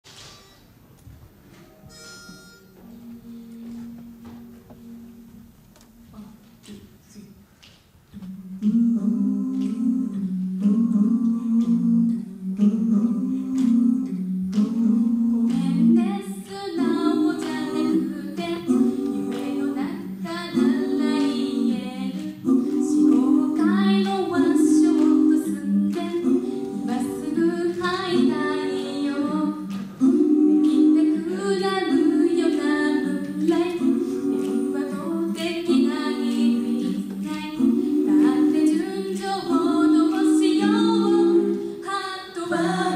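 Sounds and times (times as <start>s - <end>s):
women singing a cappella: 8.2s - 42.9s.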